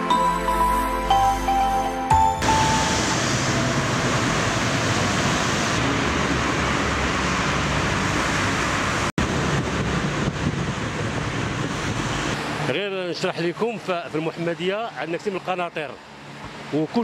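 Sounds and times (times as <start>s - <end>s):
diesel generator humming: 0.0s - 17.0s.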